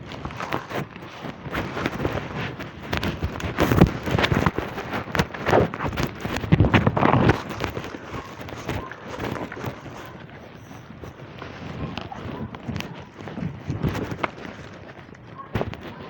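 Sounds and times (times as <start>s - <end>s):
gear jostling: 0.0s - 16.0s
running footsteps on ground: 0.0s - 16.0s.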